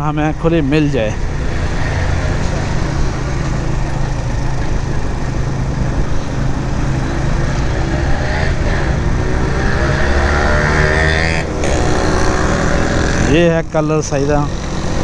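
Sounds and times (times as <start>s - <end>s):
motorcycle engine running: 2.0s - 15.0s.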